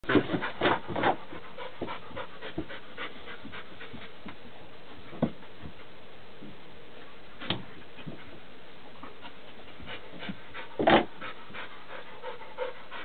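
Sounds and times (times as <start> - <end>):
dog panting: 0.0 - 6.0, 7.4 - 13.0.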